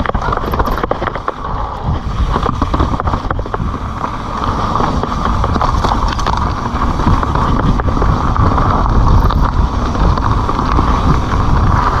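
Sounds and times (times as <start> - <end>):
bike clicks and rattles: 0.0 - 12.0
bike tyres rolling on gravel: 0.0 - 12.0
wind noise on microphone: 0.0 - 12.0.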